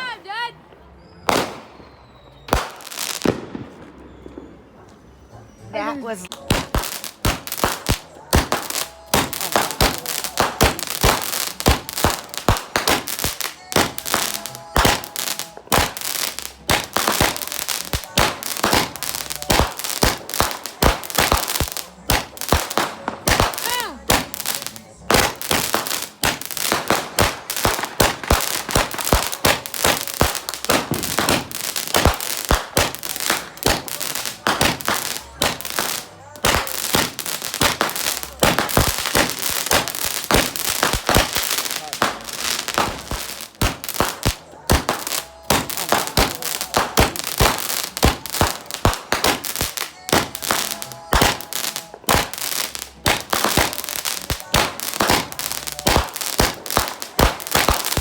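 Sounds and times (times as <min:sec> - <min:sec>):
firecrackers banging and popping: 0:00.0 - 0:05.0, 0:06.1 - 0:58.0
whistling fireworks: 0:00.6 - 0:58.0.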